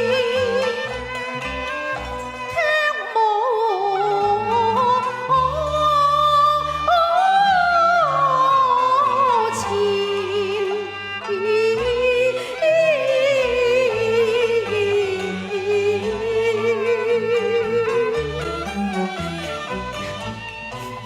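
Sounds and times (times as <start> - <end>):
sliding wavering melody: 3.5 - 21.0.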